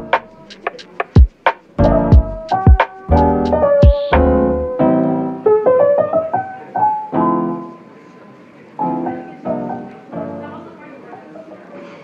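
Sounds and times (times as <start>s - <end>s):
piano notes and chords: 0.0s - 11.5s.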